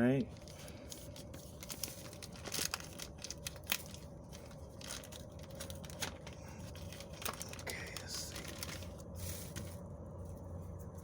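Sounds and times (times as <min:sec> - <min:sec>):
faint steady hum: 0:00.0 - 0:11.0
crinkling and rustling: 0:00.3 - 0:11.0.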